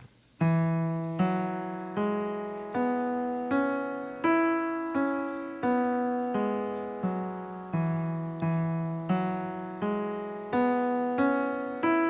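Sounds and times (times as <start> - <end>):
single piano notes: 0.0 - 12.0.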